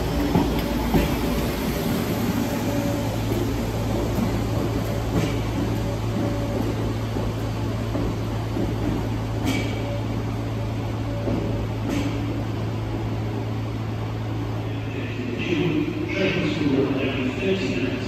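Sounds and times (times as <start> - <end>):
train electrical hum: 0.0 - 18.0.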